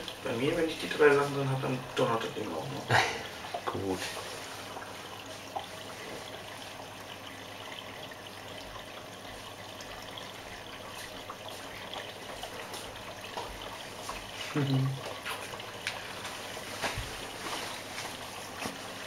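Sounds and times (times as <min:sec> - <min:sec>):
water trickling in washing machine: 0:00.0 - 0:19.0.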